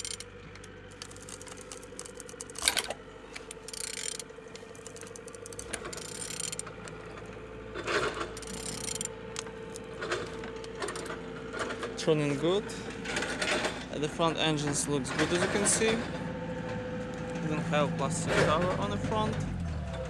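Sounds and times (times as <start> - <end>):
engine clicking and rattling: 0.0 - 20.0.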